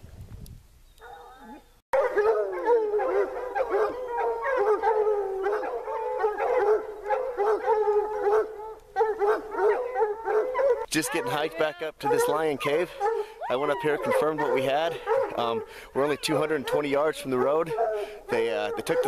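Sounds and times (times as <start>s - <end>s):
hounds baying: 2.0s - 19.0s.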